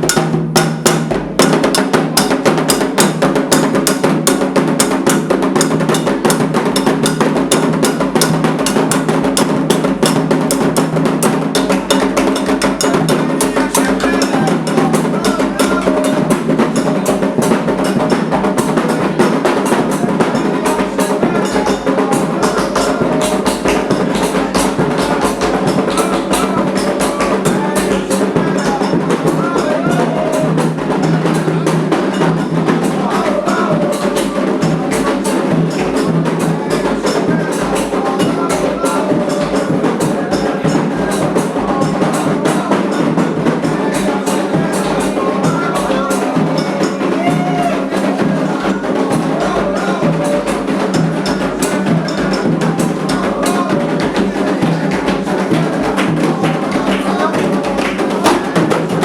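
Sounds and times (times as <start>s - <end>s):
hand drums playing fast rhythm: 0.0s - 59.0s
struck bell or wood block: 0.0s - 59.0s.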